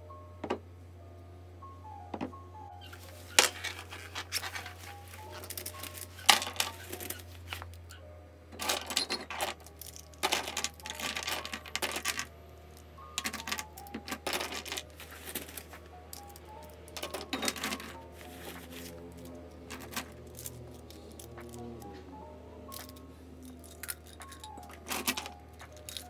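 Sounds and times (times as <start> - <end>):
soft background music: 0.0 - 26.0
plastic pens clicking and clattering: 2.9 - 7.9, 8.6 - 22.0, 22.7 - 26.0.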